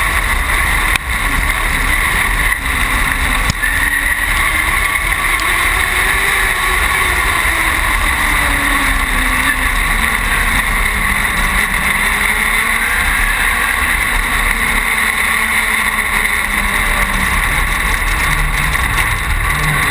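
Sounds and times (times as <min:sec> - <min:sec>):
race car engine running hard: 0:00.0 - 0:19.9.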